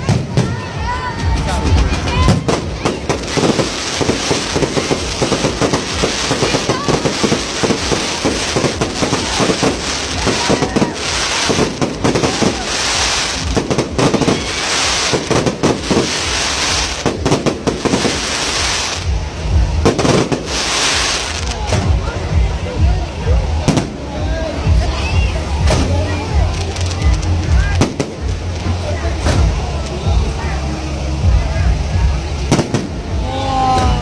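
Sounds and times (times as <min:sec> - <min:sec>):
fireworks bangs and crackling: 0:00.0 - 0:34.0
fireworks hissing: 0:00.0 - 0:34.0.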